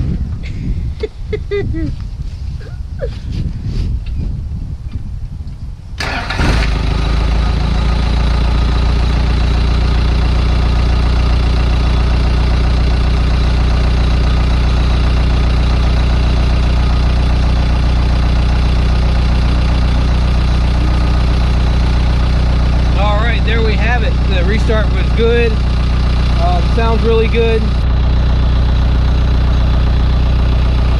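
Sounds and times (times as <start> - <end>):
diesel engine starting and idling: 6.0 - 30.9.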